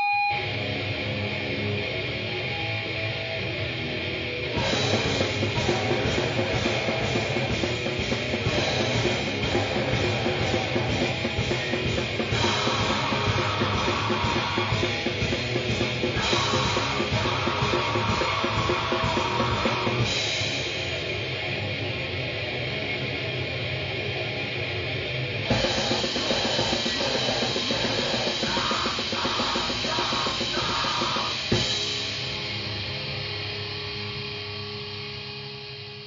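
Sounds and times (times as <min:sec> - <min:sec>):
distorted electric guitar riff: 0:00.0 - 0:36.0
drums and bass: 0:00.0 - 0:36.0.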